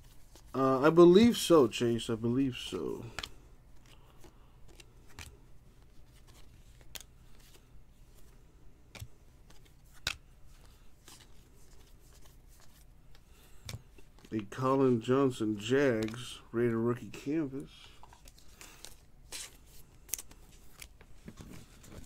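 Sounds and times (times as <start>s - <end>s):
trading cards clicking and rustling: 2.4s - 16.4s, 17.0s - 22.0s.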